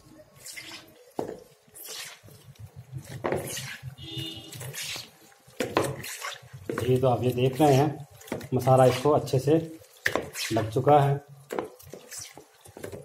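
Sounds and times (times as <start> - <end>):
wet swishes of mixing marinade: 0.0 - 13.0.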